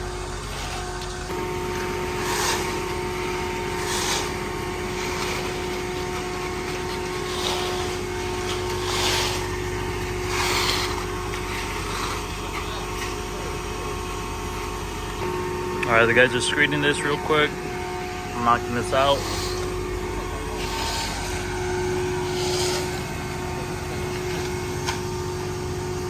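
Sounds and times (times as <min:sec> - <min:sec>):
diesel engine running: 0:00.0 - 0:26.0
wet concrete scraping swishes: 0:00.3 - 0:13.4, 0:16.0 - 0:25.4.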